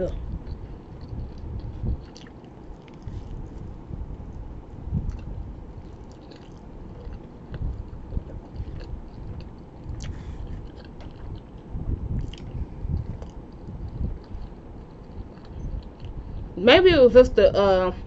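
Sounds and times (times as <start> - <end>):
person chewing food: 0.3 - 16.5.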